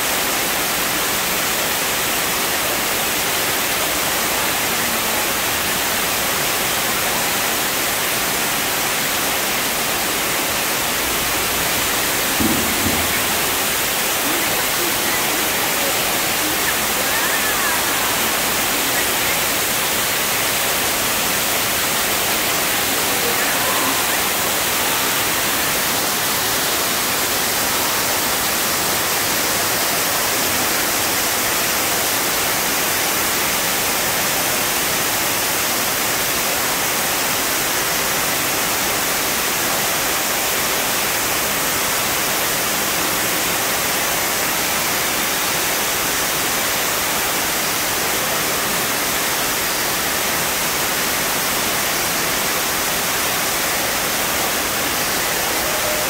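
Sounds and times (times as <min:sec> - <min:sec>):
water falling down rock wall: 0:00.0 - 0:56.0.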